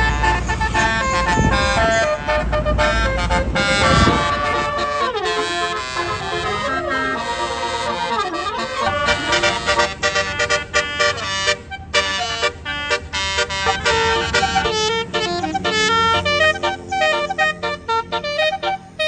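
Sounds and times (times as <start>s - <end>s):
bus musical horn melody: 0.0s - 19.0s.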